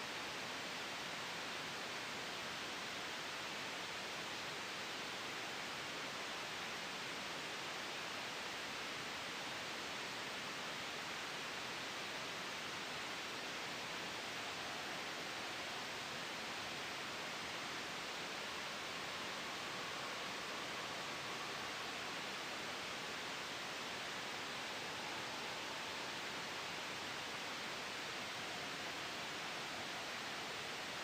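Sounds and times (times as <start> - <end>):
white noise hiss: 0.0 - 31.0.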